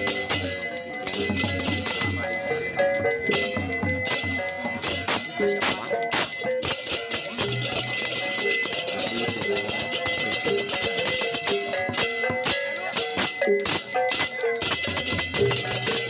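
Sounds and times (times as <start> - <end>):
gamelan music: 0.0 - 16.0
high bell-like ringing: 0.0 - 16.0
metallic strikes: 0.0 - 16.0.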